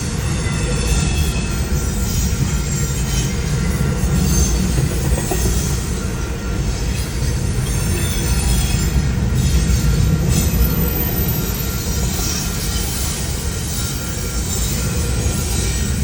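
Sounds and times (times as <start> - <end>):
high wheel squeal: 0.0 - 16.0
train cars rumbling on rails: 0.0 - 16.0.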